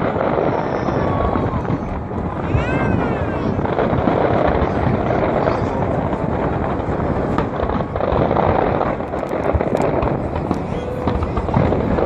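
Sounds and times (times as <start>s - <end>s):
crowd noise: 0.0s - 12.0s
distant firework bursts rumbling: 0.0s - 12.0s
firework crackles: 0.0s - 12.0s.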